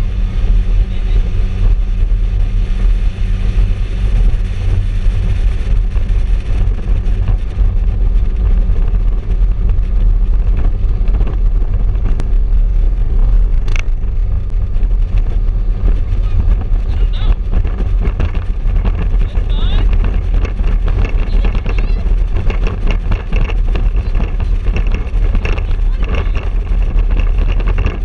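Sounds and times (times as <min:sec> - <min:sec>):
motorboat engine drone: 0:00.0 - 0:28.0
wind on microphone: 0:00.0 - 0:28.0.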